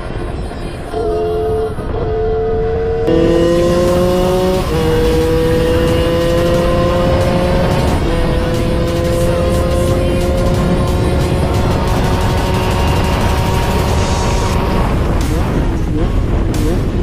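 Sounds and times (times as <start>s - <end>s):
wind and road noise: 0.0s - 17.0s
two-stroke engine accelerating: 1.8s - 17.0s.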